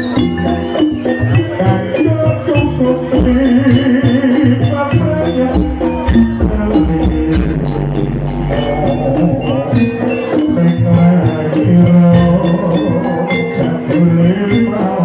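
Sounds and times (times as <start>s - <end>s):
gamelan ensemble music: 0.0s - 15.0s.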